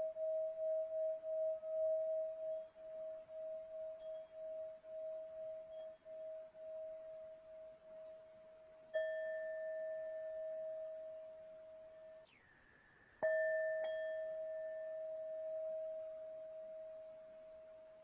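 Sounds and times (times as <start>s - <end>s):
singing bowl ringing: 0.0s - 8.2s, 8.9s - 12.2s, 13.2s - 18.0s.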